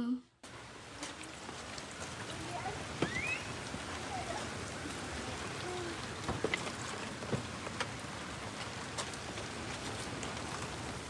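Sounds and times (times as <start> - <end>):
rain on wet pavement: 0.4 - 11.0
water drips: 0.4 - 11.0.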